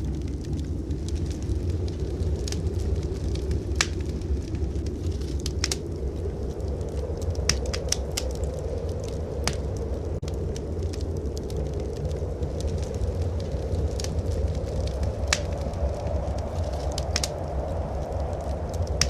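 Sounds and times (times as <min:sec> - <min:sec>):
blizzard wind rumbling: 0:00.0 - 0:19.0
wood fire crackling and popping: 0:00.0 - 0:19.0.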